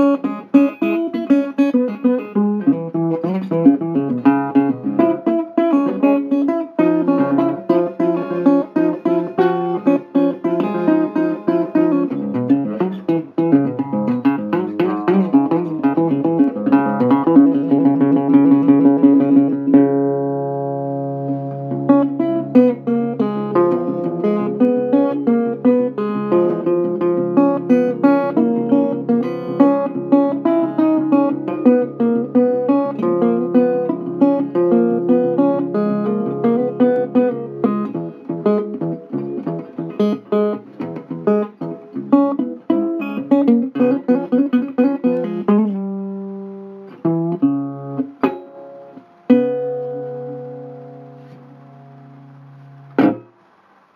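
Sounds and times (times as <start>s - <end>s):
guitar chord ringing: 0.0s - 53.9s
guitar picking: 0.0s - 53.9s.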